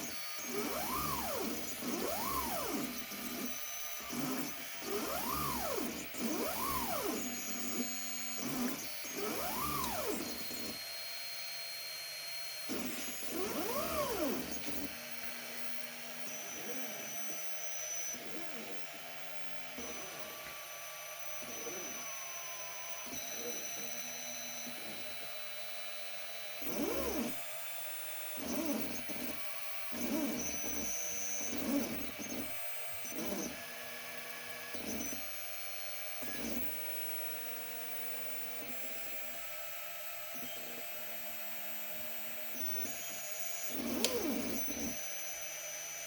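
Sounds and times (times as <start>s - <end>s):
robotic arm motors whining: 0.0s - 46.0s.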